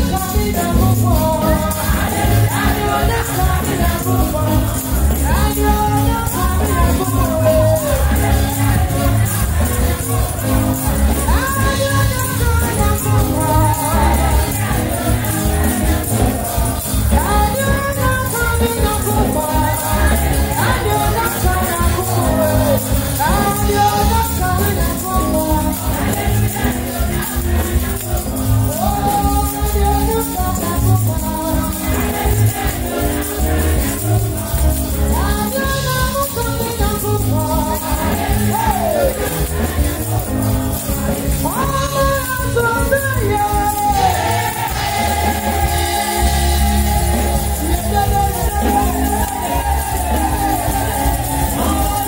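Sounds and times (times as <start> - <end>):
gospel singing over a beat: 0.0 - 52.0
tambourines shaking: 0.0 - 52.0.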